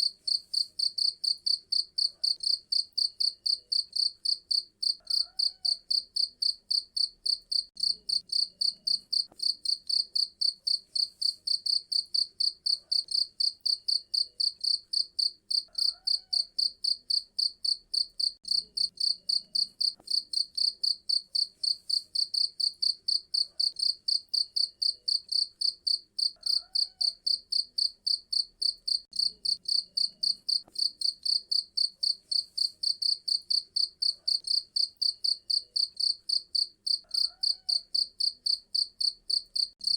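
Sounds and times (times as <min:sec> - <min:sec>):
cricket chirping: 0:00.3 - 0:39.9.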